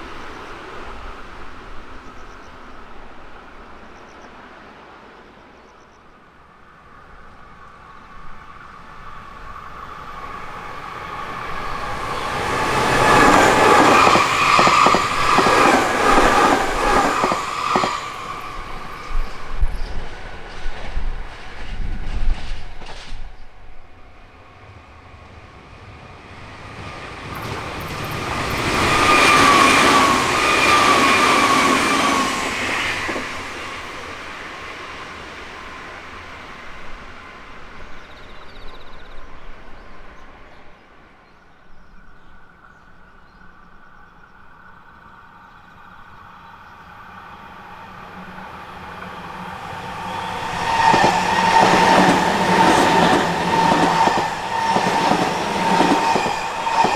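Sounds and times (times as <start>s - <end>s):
electric train passing with whine: 0.0s - 56.9s
train approaching: 0.0s - 56.9s.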